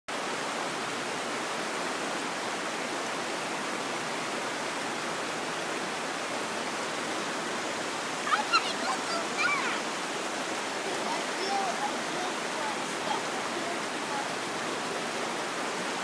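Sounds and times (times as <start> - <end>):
water rushing over stones: 0.1 - 16.0.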